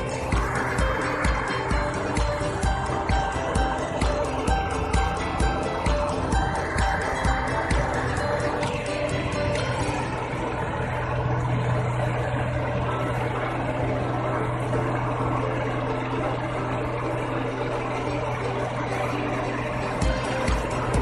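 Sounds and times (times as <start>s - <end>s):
combine harvester engine drone: 0.0s - 21.0s
machinery whir: 0.0s - 21.0s.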